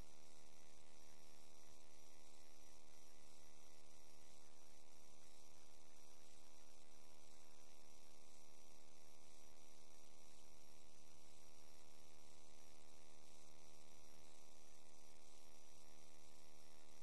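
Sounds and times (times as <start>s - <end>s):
electrical mains hum: 0.0s - 17.0s
faint high whine and hiss: 0.0s - 17.0s.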